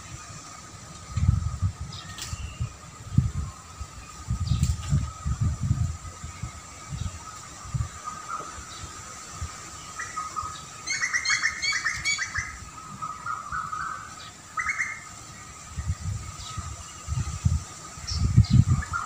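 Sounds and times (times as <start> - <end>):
small songbird chirping: 0.0 - 19.0.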